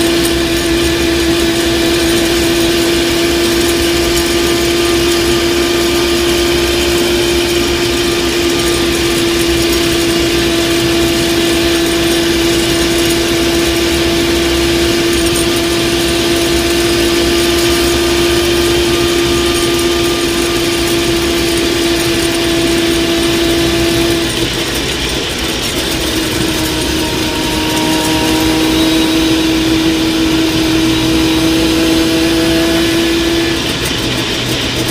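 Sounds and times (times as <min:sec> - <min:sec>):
car transmission whining: 0:00.0 - 0:34.9
engine and road noise: 0:00.0 - 0:34.9.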